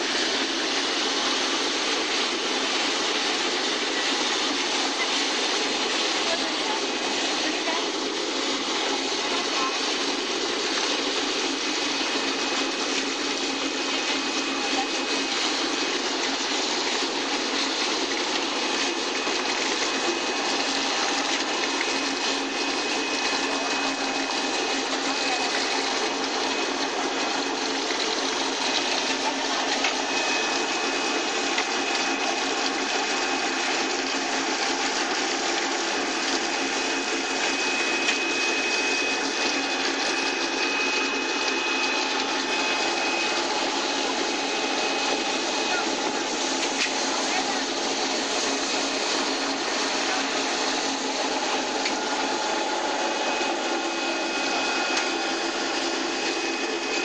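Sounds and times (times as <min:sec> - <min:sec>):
machine motor hum: 0:00.0 - 0:57.0
water churning in tank: 0:00.0 - 0:57.0.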